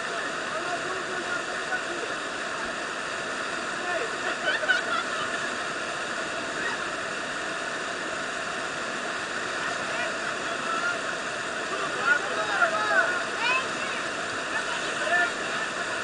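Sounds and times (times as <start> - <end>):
river rapid rushing: 0.0 - 16.0.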